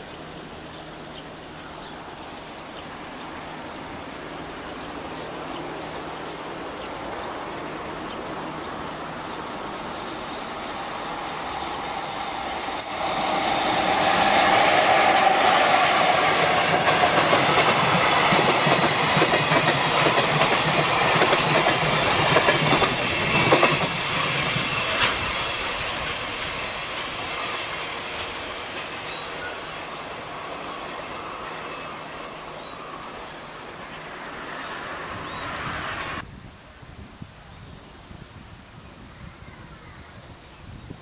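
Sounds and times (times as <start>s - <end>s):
freight train passing: 0.0s - 36.2s.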